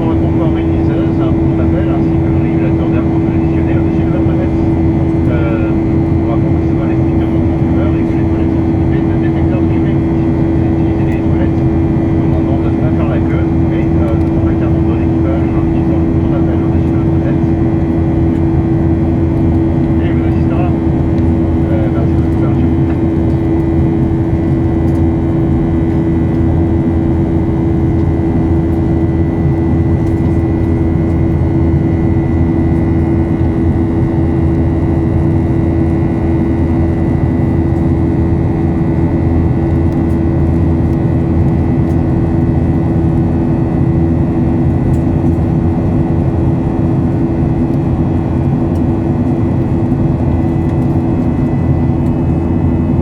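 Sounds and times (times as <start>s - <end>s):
jet engines droning in cabin: 0.0s - 53.0s.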